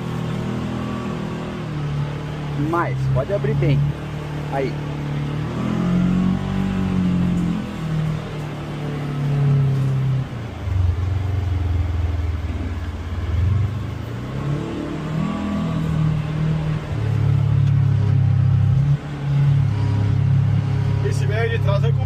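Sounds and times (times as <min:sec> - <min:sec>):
utility vehicle engine revving: 0:00.0 - 0:22.0.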